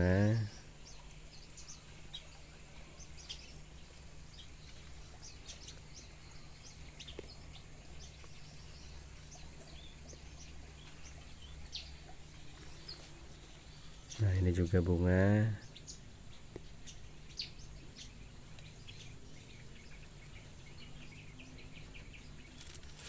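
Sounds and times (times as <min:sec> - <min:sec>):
low steady hum: 0:00.0 - 0:23.0
small birds chirping: 0:00.0 - 0:23.0.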